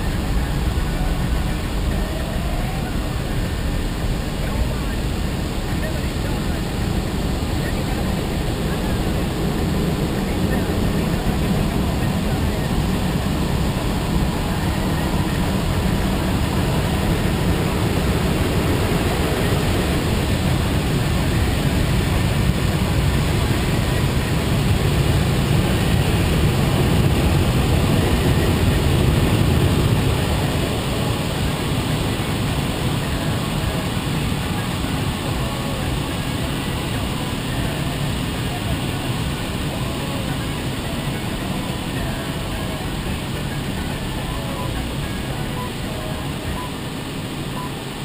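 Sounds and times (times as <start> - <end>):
moving vehicle rumble: 0.0 - 48.0.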